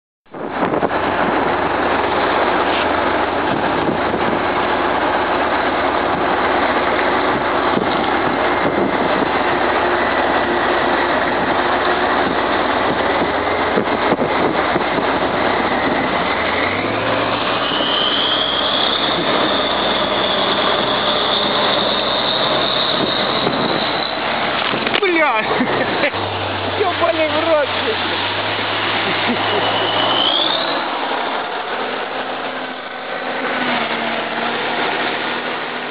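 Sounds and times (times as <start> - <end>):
heavy diesel truck engine: 0.3 - 35.9
high whine: 0.3 - 35.9
truck driving through water: 0.4 - 35.9.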